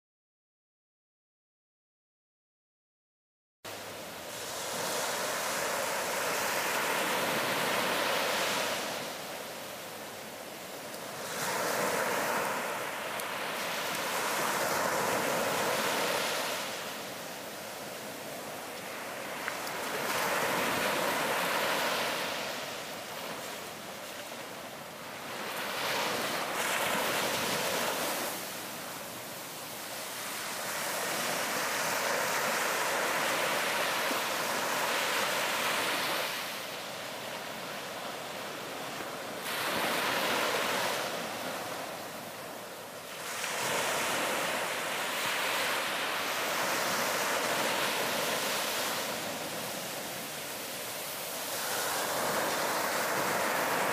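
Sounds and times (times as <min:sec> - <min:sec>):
ocean waves breaking on beach: 0:03.7 - 0:53.9.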